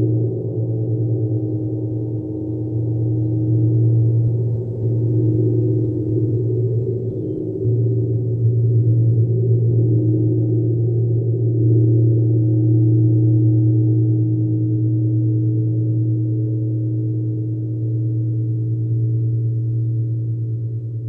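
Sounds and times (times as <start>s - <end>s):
gong humming drone: 0.0s - 21.0s.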